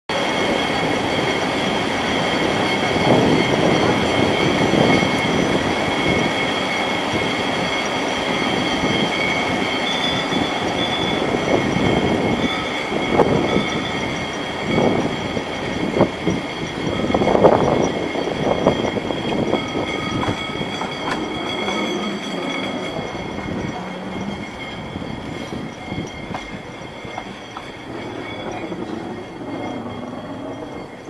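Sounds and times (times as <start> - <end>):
thin steady whine: 0.1 - 31.0
tramcar rumbling on rails: 0.1 - 31.0
wheels knocking on track: 0.1 - 31.0.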